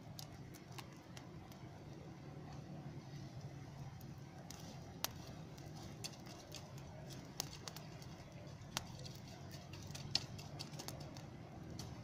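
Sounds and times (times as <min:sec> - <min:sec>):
embers crackling and popping: 0:00.0 - 0:12.0
steady low rumble: 0:00.0 - 0:12.0.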